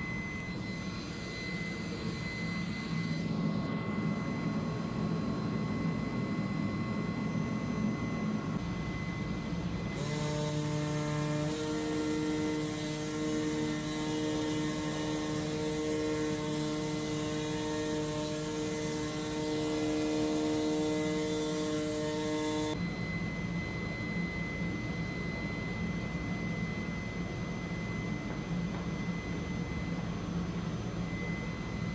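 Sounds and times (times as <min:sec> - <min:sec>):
cutting machine hum with whine: 0:00.0 - 0:31.9.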